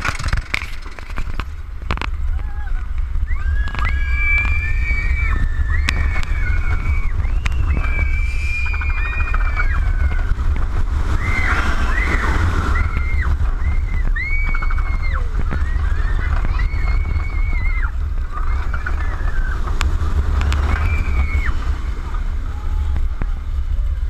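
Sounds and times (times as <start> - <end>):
roller coaster riders screaming: 0.0 - 24.0
rumble of moving coaster train: 0.0 - 24.0
wind buffeting microphone: 0.0 - 24.0.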